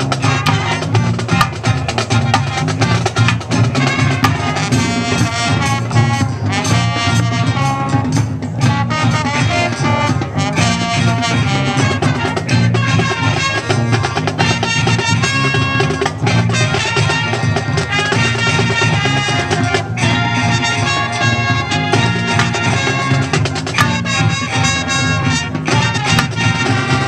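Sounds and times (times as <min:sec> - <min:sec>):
marching band playing: 0:00.0 - 0:27.0.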